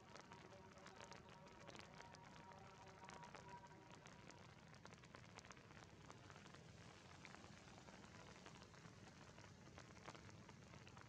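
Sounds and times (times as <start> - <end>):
faint steady rainfall: 0.0 - 11.0
raindrops ticking on surfaces: 0.0 - 11.0.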